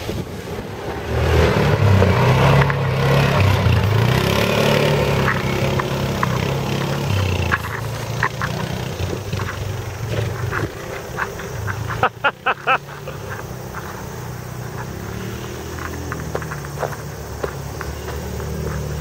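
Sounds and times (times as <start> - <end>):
vehicle engine driving away: 0.4 - 19.0.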